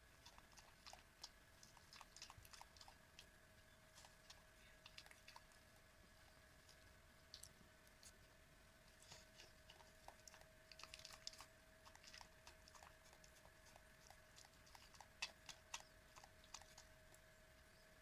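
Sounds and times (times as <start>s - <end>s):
dog chewing wet food: 0.0s - 17.8s.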